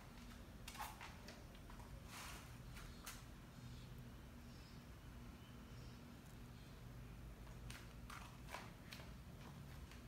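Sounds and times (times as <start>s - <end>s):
faint low room hum: 0.0s - 10.0s.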